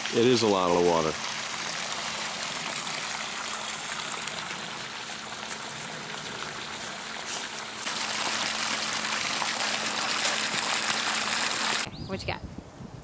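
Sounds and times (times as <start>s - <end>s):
water rushing from pump: 0.0s - 11.9s.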